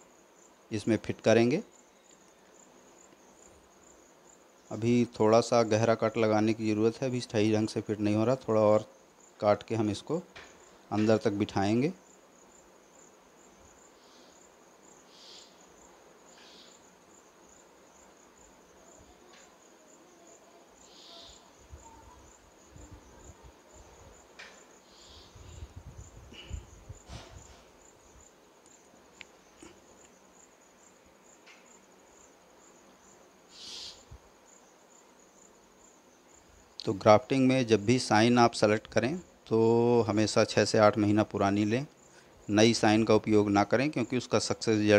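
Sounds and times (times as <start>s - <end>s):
insect trilling: 0.0s - 44.9s.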